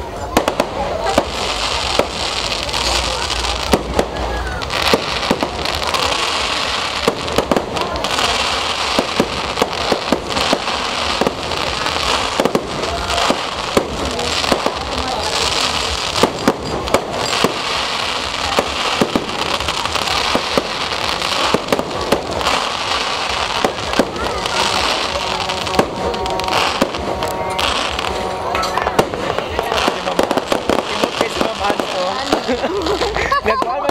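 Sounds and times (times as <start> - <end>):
fireworks crackling: 0.0 - 33.9
fireworks pops and bangs: 0.0 - 33.9.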